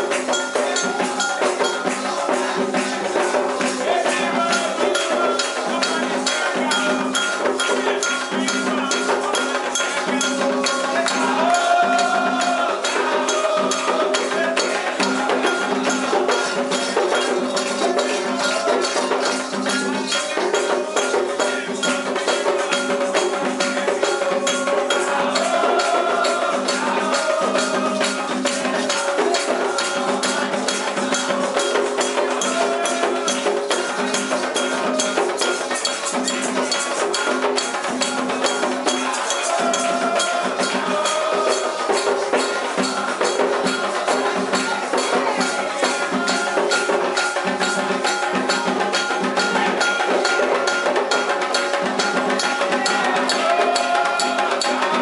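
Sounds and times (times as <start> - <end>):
hand percussion: 0.0 - 55.0
struck bells: 0.0 - 55.0
voices singing a chant: 0.0 - 55.0.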